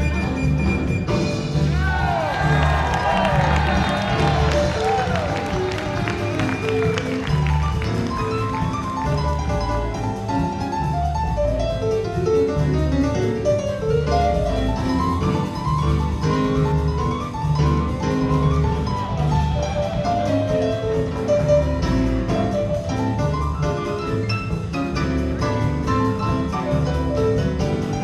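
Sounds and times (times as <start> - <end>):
jazz band playing: 0.0 - 28.0.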